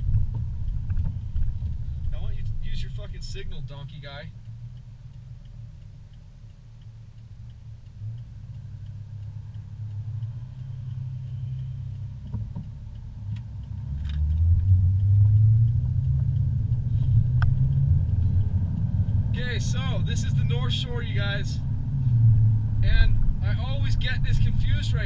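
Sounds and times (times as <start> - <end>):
car engine idling: 0.0 - 25.0
car engine revving: 0.0 - 25.0
turn signal ticking: 0.0 - 25.0.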